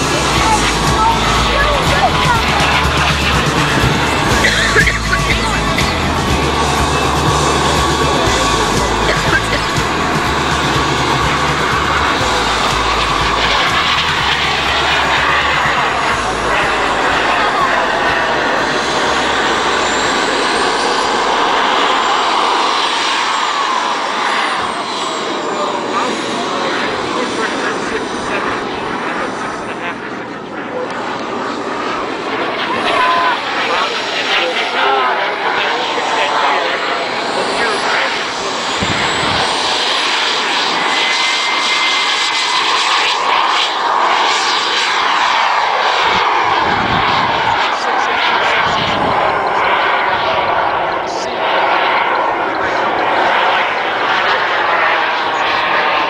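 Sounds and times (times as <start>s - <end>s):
high turbine whine: 0.0s - 56.0s.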